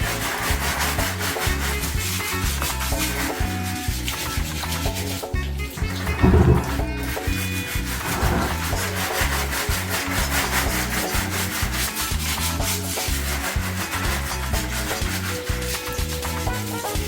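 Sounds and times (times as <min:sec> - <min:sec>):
background music: 0:00.0 - 0:17.0
scrubbing machine parts: 0:00.0 - 0:17.0.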